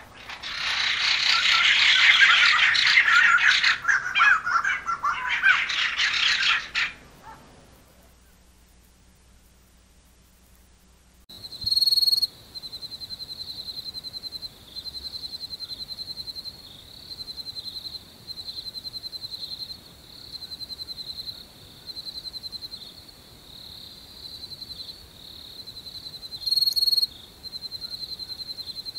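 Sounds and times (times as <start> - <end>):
cricket trilling: 0.0 - 7.4, 11.3 - 28.9.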